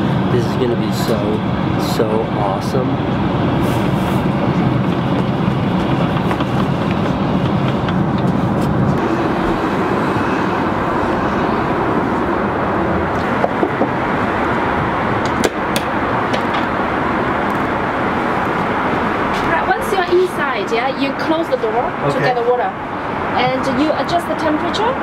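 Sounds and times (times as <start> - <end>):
airliner cabin drone: 0.0 - 25.0.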